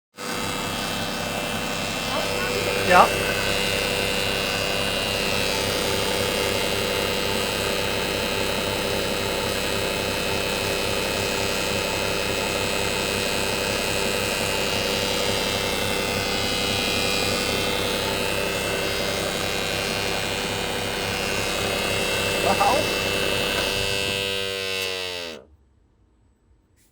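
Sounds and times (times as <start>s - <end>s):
car engine running: 0.2s - 25.4s
pulsing hum: 0.2s - 25.4s
steady whine: 0.2s - 25.4s.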